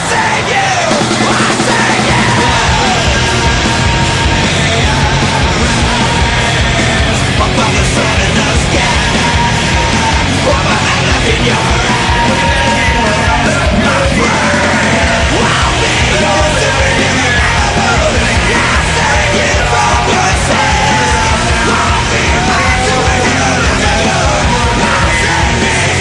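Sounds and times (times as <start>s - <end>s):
loud rock music: 0.0s - 26.0s
shouted vocals: 0.0s - 26.0s.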